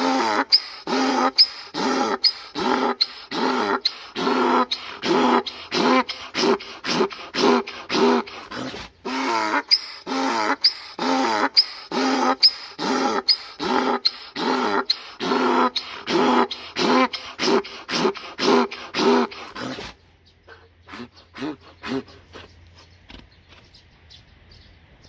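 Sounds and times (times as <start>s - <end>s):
donkey braying: 0.0s - 22.9s.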